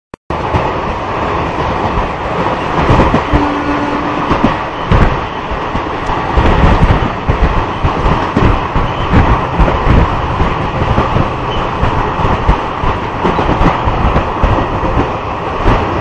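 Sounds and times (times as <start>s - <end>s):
rush of wheels and wind: 0.3s - 16.0s.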